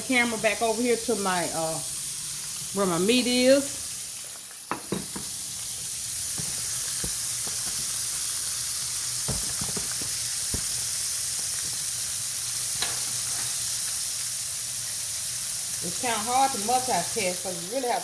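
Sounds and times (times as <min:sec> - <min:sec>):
cutlets sizzling in oil: 0:00.0 - 0:18.0.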